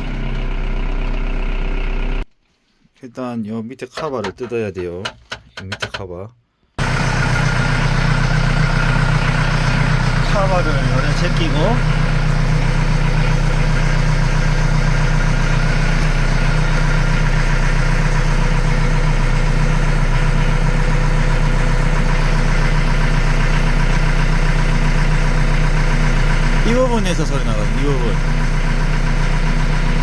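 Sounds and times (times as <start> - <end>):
tractor diesel engine idling: 0.0 - 2.2, 6.8 - 30.0.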